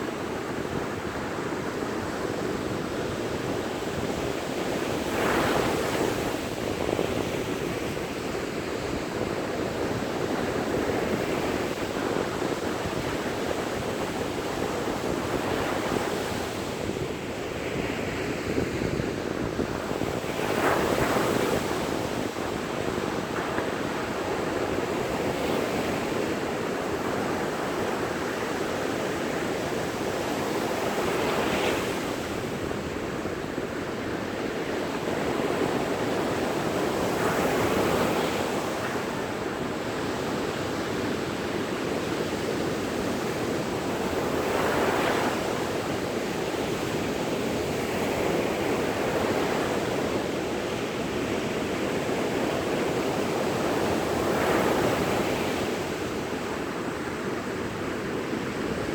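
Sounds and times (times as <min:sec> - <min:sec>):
waves breaking on beach: 0:00.0 - 0:58.9.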